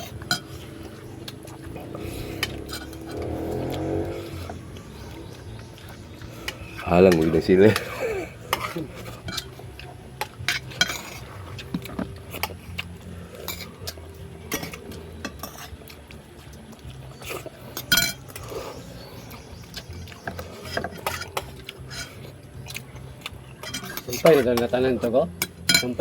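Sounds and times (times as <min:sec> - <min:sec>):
utensils clinking against plates: 0:00.0 - 0:04.6, 0:05.8 - 0:16.5, 0:17.2 - 0:26.0.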